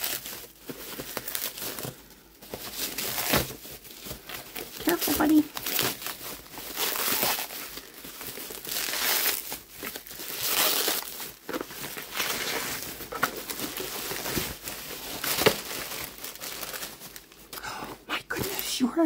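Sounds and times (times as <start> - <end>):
paper bags crinkling: 0.0 - 17.6, 18.3 - 19.0.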